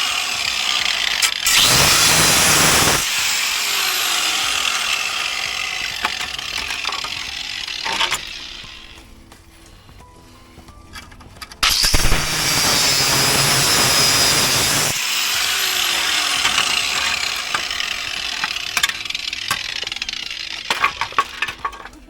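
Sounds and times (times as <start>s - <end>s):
angle grinder grinding metal: 0.0s - 9.1s, 11.6s - 21.7s.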